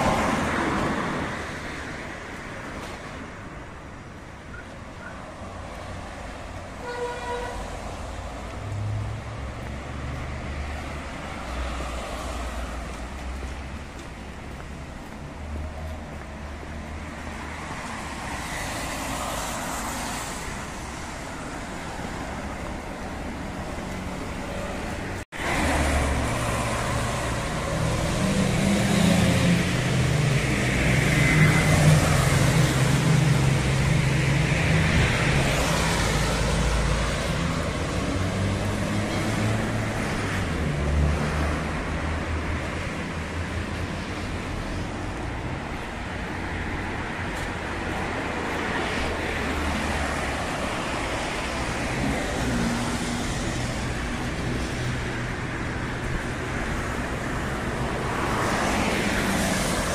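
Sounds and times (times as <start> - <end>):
cars driving by on wet street: 0.0 - 59.9.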